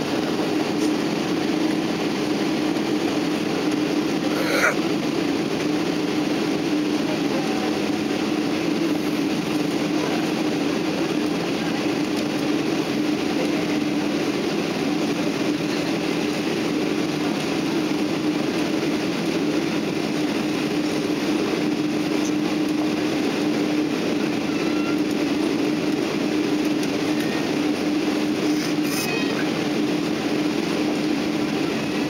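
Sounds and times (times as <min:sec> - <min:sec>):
air-conditioning: 0:00.0 - 0:32.0
constant low hum: 0:00.0 - 0:32.0
jet engines at low power: 0:00.0 - 0:32.0.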